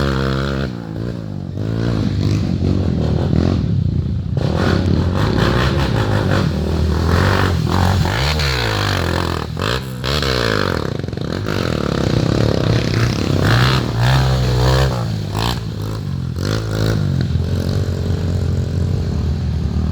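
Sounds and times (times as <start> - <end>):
motorcycle engines revving: 0.0 - 19.9.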